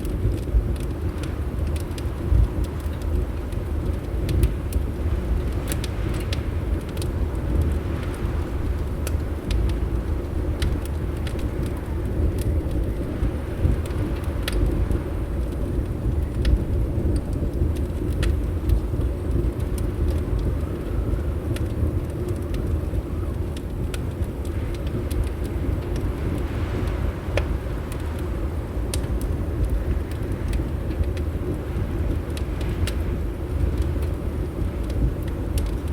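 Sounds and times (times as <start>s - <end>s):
low rumble of wind: 0.0s - 35.9s
wood fire crackling: 0.0s - 35.9s.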